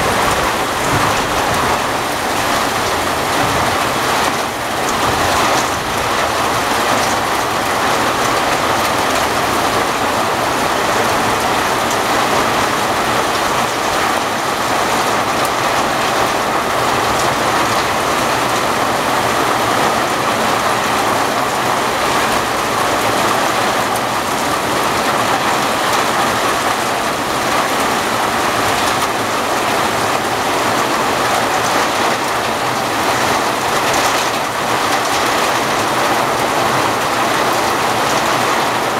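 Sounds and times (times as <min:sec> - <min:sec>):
heavy rain splashing on stone: 0:00.0 - 0:38.9.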